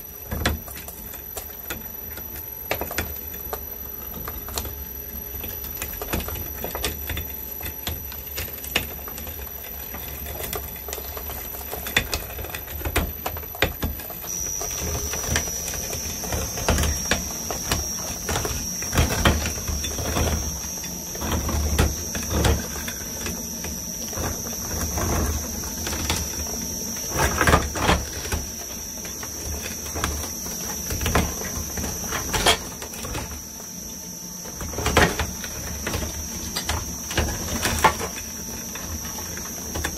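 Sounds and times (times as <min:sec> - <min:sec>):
high steady whine: 0:00.0 - 0:39.9
shredder droning: 0:00.0 - 0:39.9.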